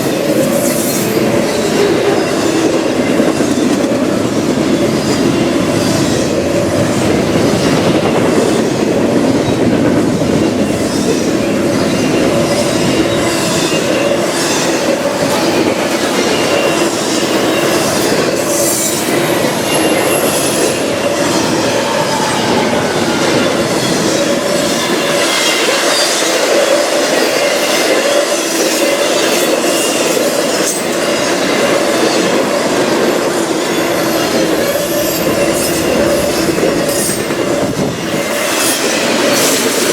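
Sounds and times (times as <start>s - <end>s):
train wheels clacking on rails: 0.0s - 39.9s
train wheels squealing: 0.0s - 39.9s.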